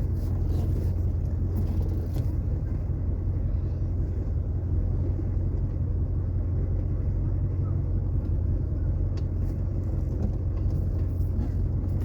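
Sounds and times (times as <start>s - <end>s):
car cabin engine and road rumble: 0.0s - 12.0s.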